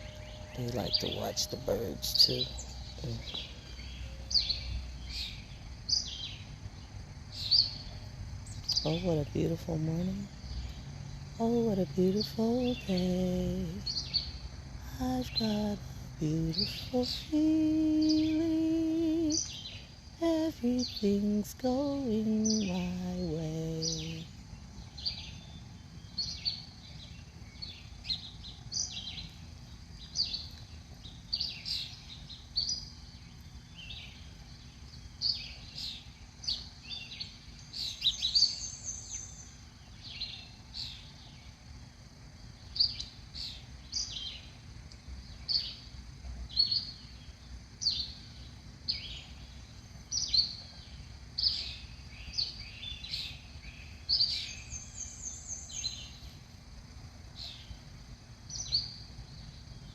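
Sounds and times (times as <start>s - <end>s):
low background rumble: 0.0s - 59.9s
songbirds chirping: 0.0s - 59.9s.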